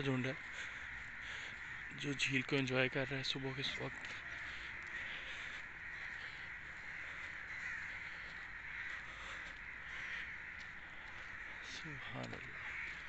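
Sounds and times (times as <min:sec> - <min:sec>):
chorus of birds calling: 0:00.0 - 0:13.0.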